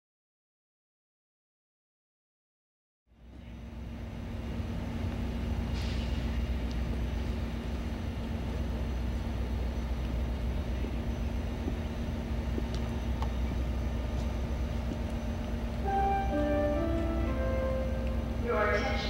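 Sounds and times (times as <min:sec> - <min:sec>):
diesel locomotive idling: 0:03.1 - 0:19.0.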